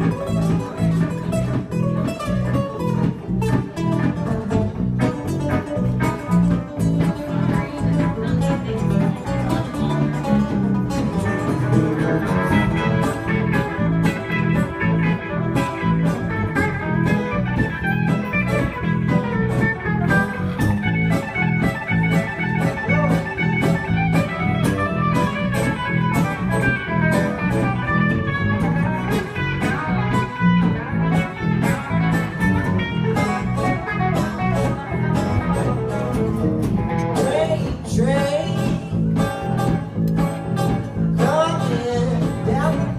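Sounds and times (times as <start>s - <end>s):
live blues band playing: 0.0s - 42.9s.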